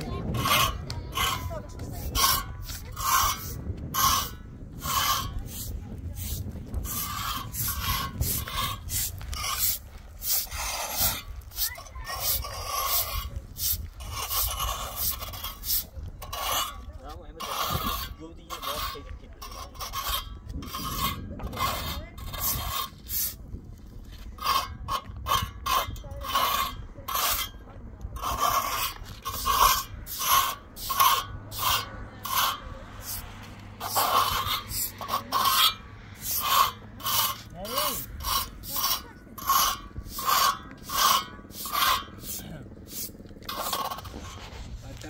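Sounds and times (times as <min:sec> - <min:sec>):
rasping scraping strokes: 0:00.0 - 0:45.0.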